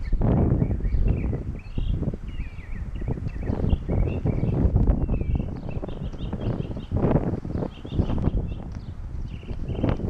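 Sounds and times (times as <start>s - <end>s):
small birds chirping: 0.0s - 10.0s
wind buffeting microphone: 0.0s - 10.0s.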